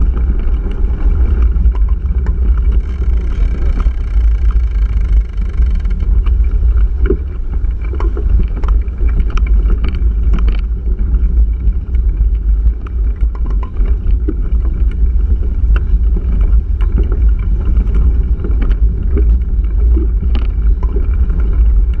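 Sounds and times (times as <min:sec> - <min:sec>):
bike rattling clicks and knocks: 0:00.0 - 0:22.0
wind buffeting microphone: 0:00.0 - 0:22.0.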